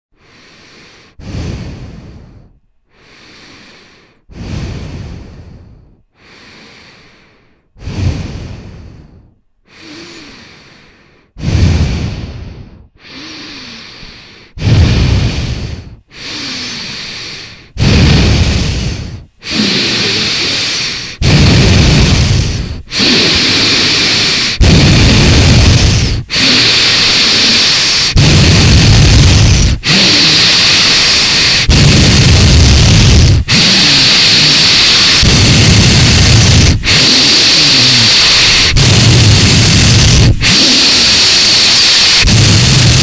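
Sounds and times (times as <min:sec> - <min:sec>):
heavy breathing: 0:00.1 - 0:43.0.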